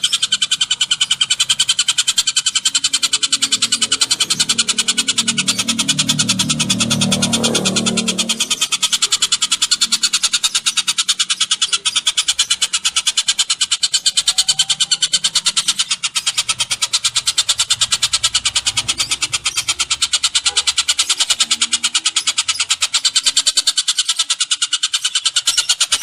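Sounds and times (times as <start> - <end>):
bird call rattling trill: 0.0 - 26.0.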